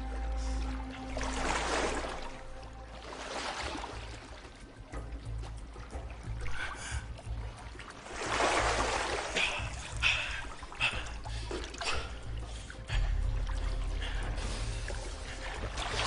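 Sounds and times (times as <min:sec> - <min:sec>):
low musical drone: 0:00.0 - 0:16.0
water sloshing and splashing: 0:00.0 - 0:16.0.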